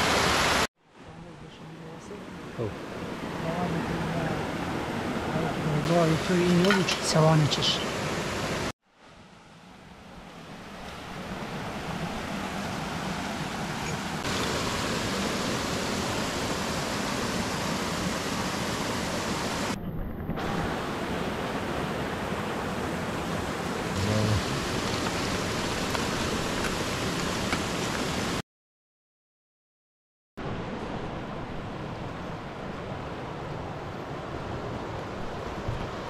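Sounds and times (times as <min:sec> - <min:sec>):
river water rushing: 0:00.0 - 0:19.8, 0:20.4 - 0:28.4, 0:30.4 - 0:36.0.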